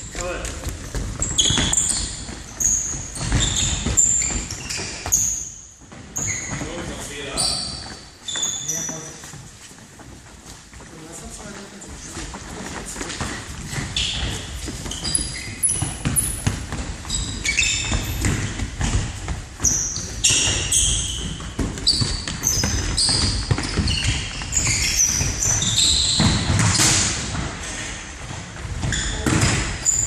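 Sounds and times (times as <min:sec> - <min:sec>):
sneakers squeaking on floor: 0:00.0 - 0:30.0.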